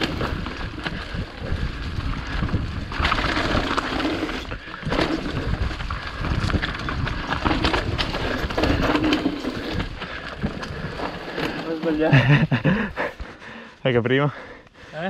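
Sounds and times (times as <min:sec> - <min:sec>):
bike tyres on dry leaves: 0:00.0 - 0:12.9
bike rattling over bumps: 0:00.0 - 0:13.2.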